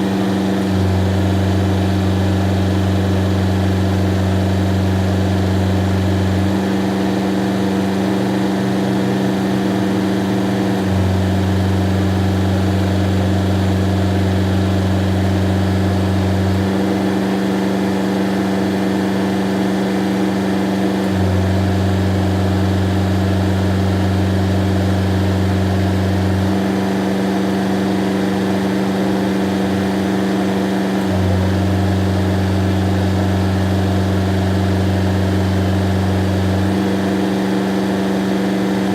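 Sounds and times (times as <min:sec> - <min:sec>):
cab air conditioner: 0:00.0 - 0:38.9
tractor diesel engine running: 0:00.0 - 0:38.9.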